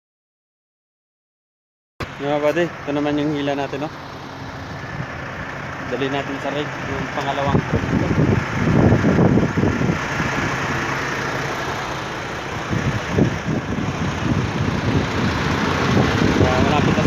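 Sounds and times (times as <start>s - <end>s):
heavy truck engine running: 2.0s - 17.0s
road rumble: 2.0s - 17.0s.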